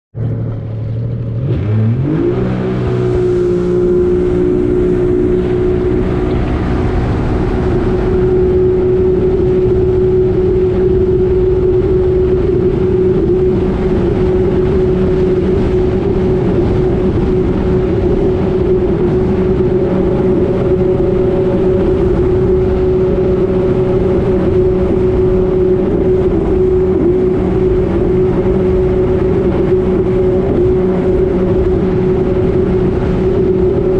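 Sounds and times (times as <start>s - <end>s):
jet ski engine: 0.2s - 33.9s
rush of noise: 0.2s - 33.9s.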